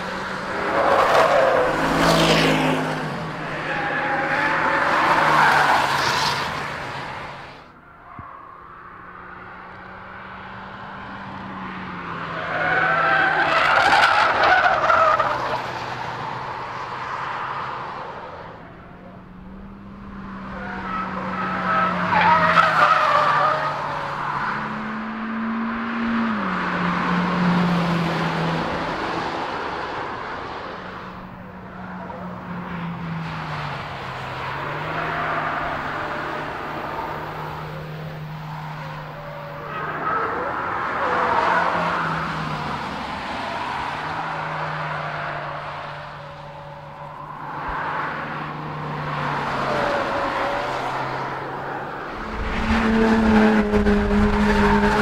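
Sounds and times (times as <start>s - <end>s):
car driving away: 0.0s - 55.0s.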